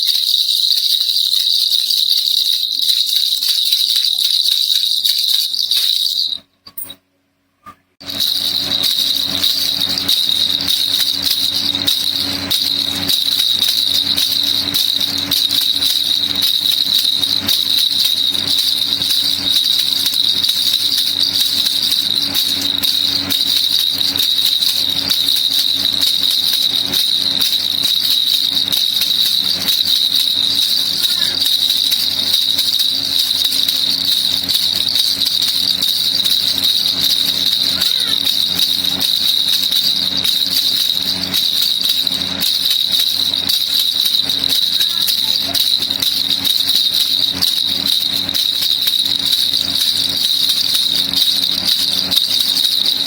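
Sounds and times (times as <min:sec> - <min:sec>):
baby rattle shaken: 0:00.0 - 0:06.8, 0:08.0 - 0:53.0.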